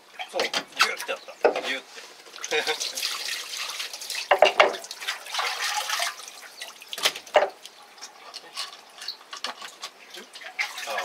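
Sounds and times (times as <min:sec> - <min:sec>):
water splashing and dripping: 0:00.1 - 0:11.0.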